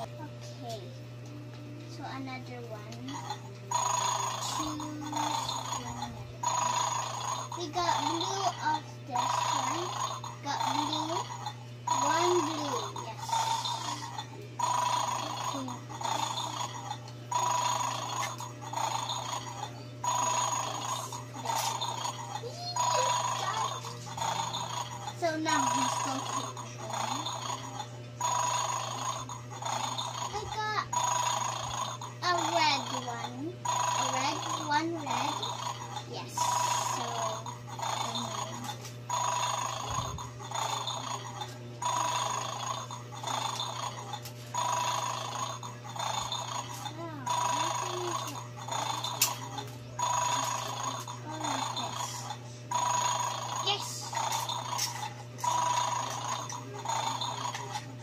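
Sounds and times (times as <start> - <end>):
toy speaker buzzy tone: 0.0 - 0.8, 3.0 - 58.0
steady low hum: 0.0 - 58.0.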